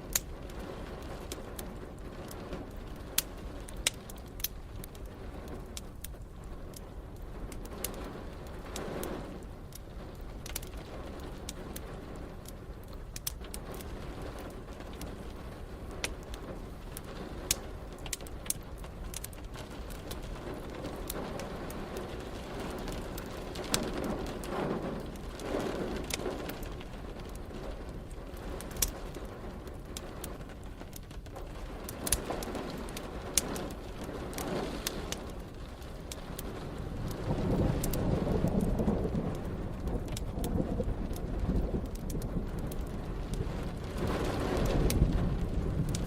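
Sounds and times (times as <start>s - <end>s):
steady rain: 0.0s - 46.0s
wood fire crackling and popping: 0.0s - 46.0s
low rumbles of thunder: 4.6s - 30.7s, 31.6s - 46.0s.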